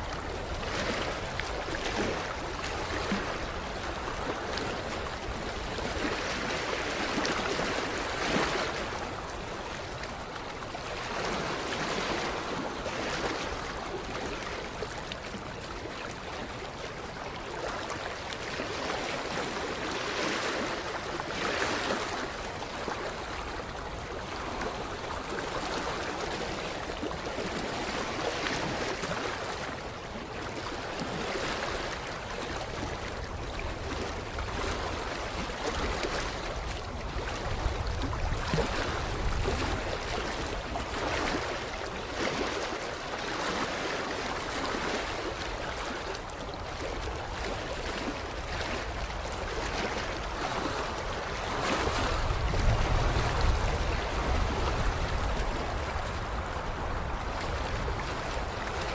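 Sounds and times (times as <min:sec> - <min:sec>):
water lapping against shoreline: 0:00.0 - 0:58.9.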